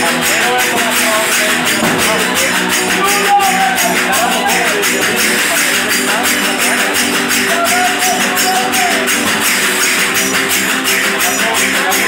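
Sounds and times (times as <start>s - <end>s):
strummed guitars: 0.0s - 12.0s.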